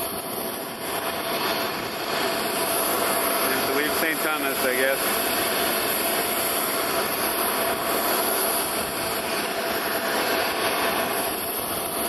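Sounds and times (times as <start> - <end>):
jet airliner turbine whine: 0.0 - 12.0.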